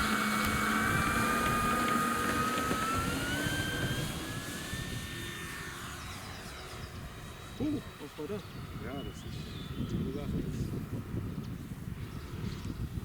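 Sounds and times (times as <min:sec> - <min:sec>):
electric motor and propeller whining: 0:00.0 - 0:13.0.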